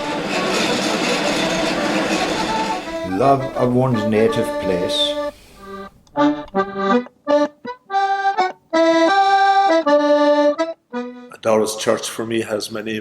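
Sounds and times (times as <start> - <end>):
traditional instrumental tune: 0.0 - 12.4.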